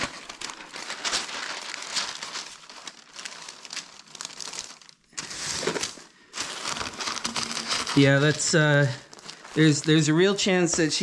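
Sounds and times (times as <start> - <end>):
material crinkling and rustling: 0.0 - 11.0.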